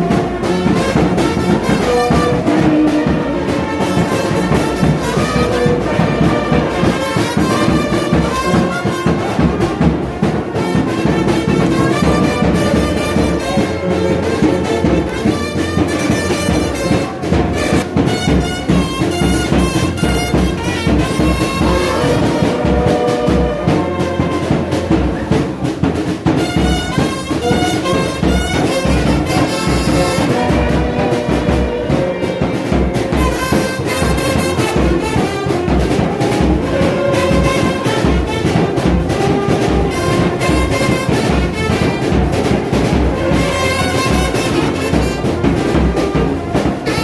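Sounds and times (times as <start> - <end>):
brass band music: 0.0 - 47.0.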